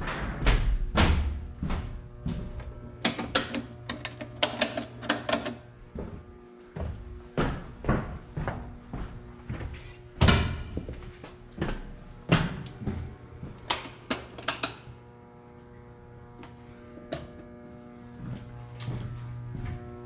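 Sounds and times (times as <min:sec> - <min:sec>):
pitched hum with overtones: 0:00.0 - 0:20.0.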